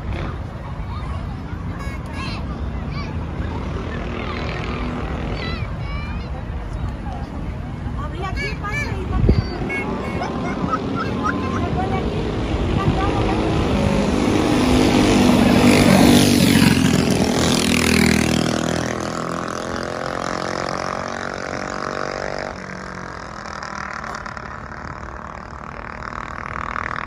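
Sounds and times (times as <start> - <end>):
traffic noise: 0.0 - 27.0.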